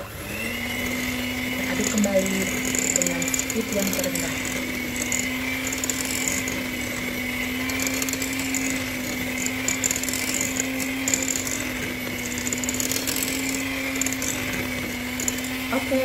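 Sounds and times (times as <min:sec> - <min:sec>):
electric hand mixer humming: 0:00.0 - 0:16.0.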